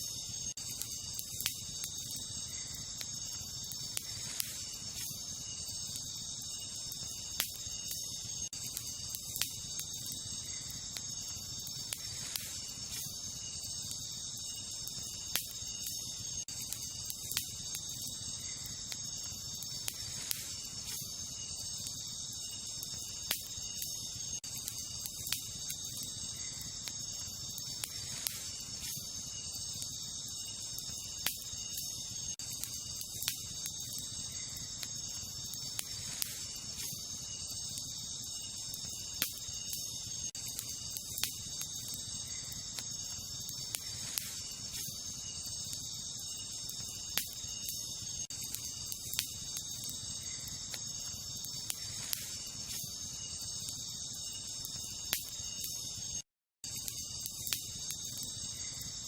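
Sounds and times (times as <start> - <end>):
crickets chirping: 0.0 - 59.0
campfire crackling and popping: 0.1 - 59.0.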